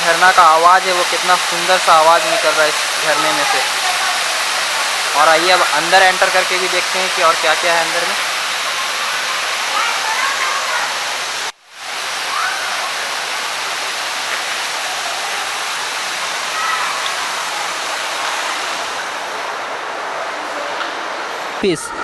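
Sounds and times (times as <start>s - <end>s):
waterfall rushing into pool: 0.0s - 22.0s.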